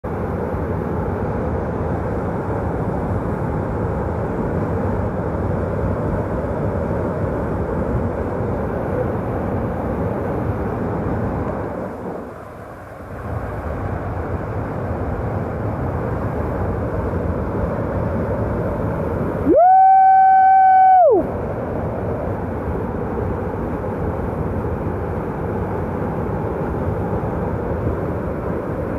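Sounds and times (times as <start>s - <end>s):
whitewater rushing: 0.2s - 28.9s.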